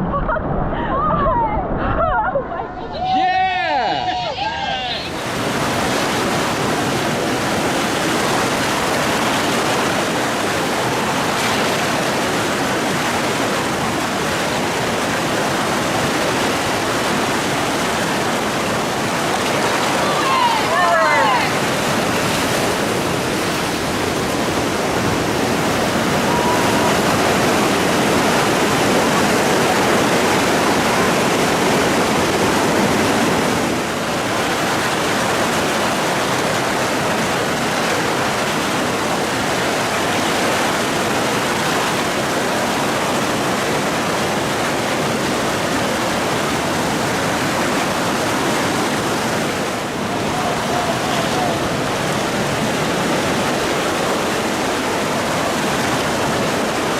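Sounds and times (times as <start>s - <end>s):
whitewater rushing: 3.0s - 56.9s.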